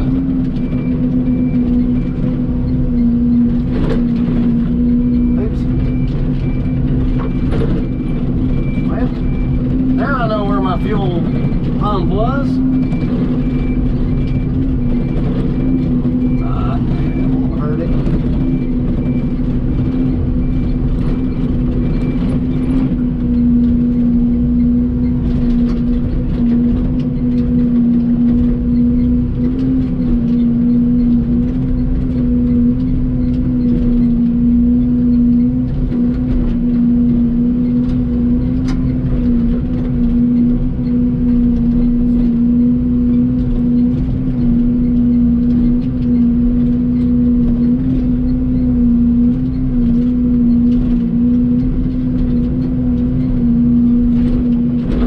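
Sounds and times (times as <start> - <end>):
excavator diesel engine droning: 0.0 - 55.0.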